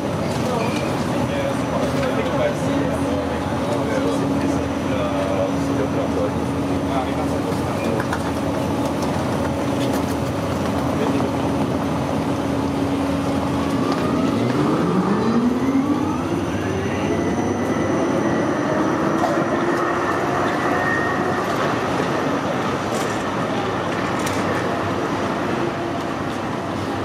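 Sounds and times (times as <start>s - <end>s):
city street noise: 0.0s - 27.0s
tram motors whining: 0.0s - 27.0s.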